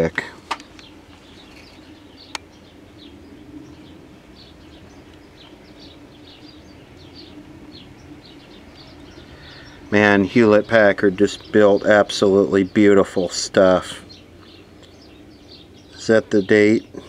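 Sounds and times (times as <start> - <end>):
birds chirping faintly: 0.0 - 17.0
low steady hum: 0.0 - 17.0.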